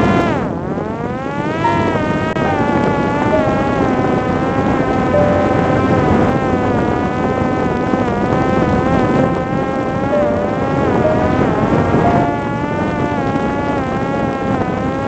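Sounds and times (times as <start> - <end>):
drone motor and propeller whining: 0.0 - 15.0.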